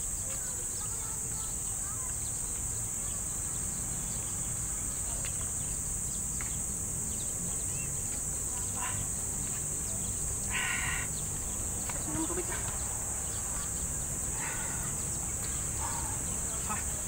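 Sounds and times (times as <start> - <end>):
high-pitched insect buzzing: 0.0 - 17.0
road traffic rumble: 0.0 - 17.0.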